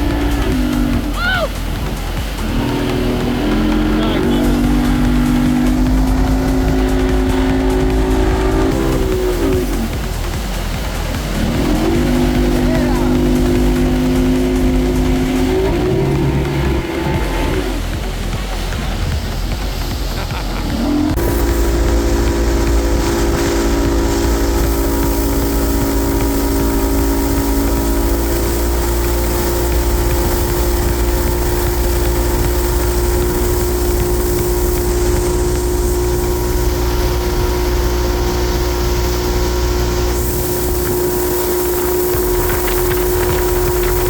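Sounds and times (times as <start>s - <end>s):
engine running: 0.0s - 44.0s.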